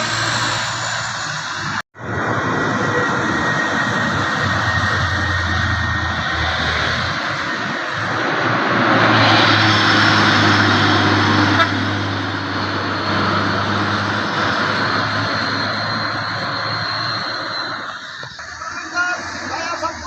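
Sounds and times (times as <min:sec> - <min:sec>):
diesel truck engine straining: 0:00.0 - 0:20.0
loud rushing noise: 0:00.0 - 0:20.0.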